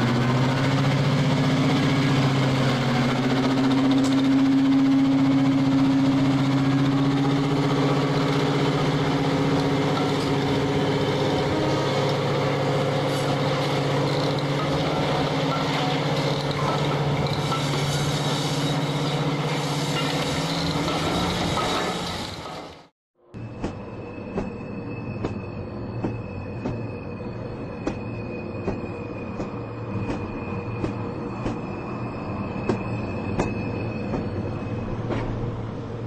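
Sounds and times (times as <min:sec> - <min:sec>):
diesel locomotive engines droning: 0:00.0 - 0:36.0.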